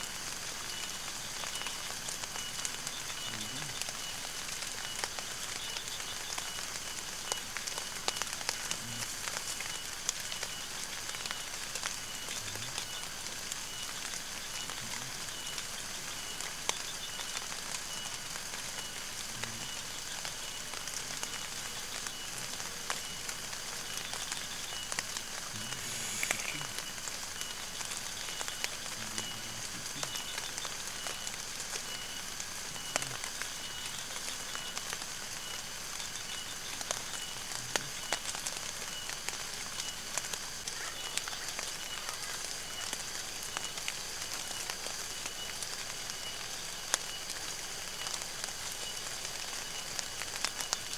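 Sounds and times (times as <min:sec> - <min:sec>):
small ticks: 0:00.0 - 0:50.9
steady watery hiss: 0:00.0 - 0:50.9.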